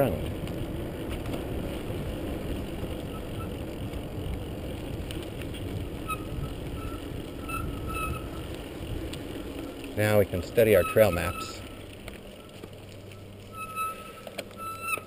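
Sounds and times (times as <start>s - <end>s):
wind and tyres rumbling: 0.0s - 15.0s.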